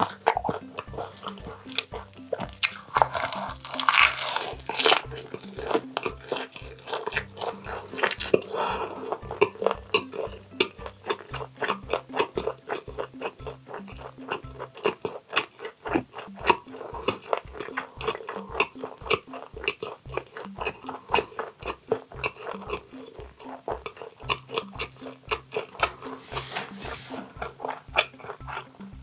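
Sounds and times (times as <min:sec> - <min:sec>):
background music with steady beat: 0:00.0 - 0:29.0
close chewing and biting: 0:00.0 - 0:29.0.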